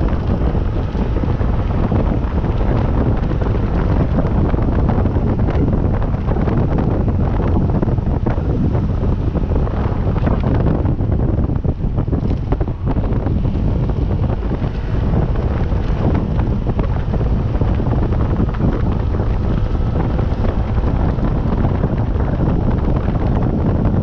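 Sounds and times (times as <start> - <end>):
vehicle running noise: 0.0 - 24.0
wind buffeting microphone: 0.0 - 24.0.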